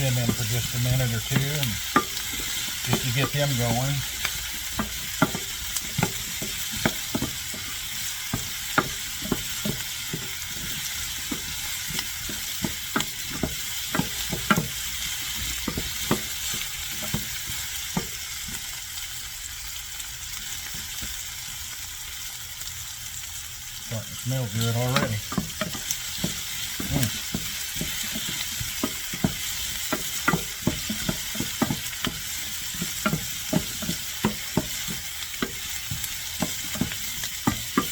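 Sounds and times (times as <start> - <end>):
utensil scraping a pan: 0.0 - 18.6, 24.2 - 37.9
vegetables sizzling in oil: 0.0 - 37.9.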